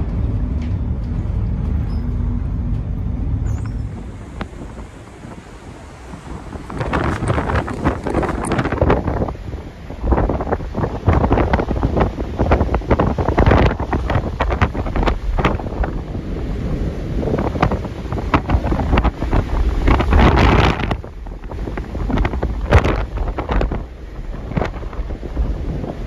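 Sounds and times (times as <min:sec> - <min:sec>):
wind buffeting microphone: 0:00.0 - 0:26.0
breaking waves: 0:02.2 - 0:26.0.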